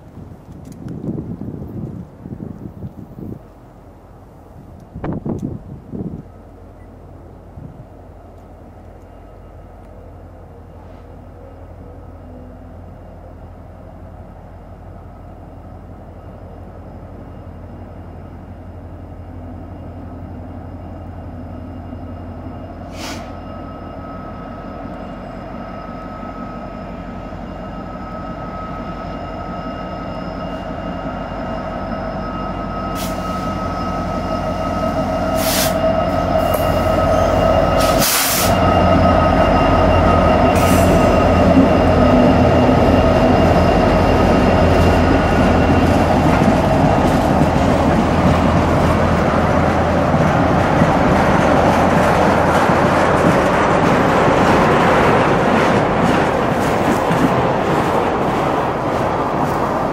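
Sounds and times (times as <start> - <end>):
diesel locomotives passing: 0.0 - 59.9
steady high whine: 11.2 - 59.9.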